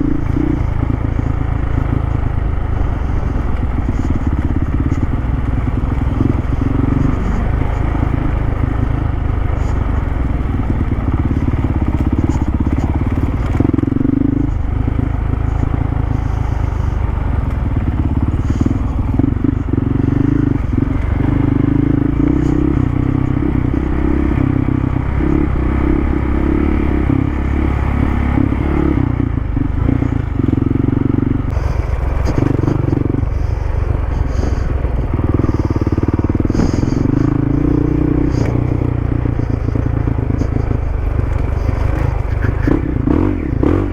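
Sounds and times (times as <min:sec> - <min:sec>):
heavy low rumble: 0:00.0 - 0:43.9
motorcycle engine running: 0:00.0 - 0:43.9.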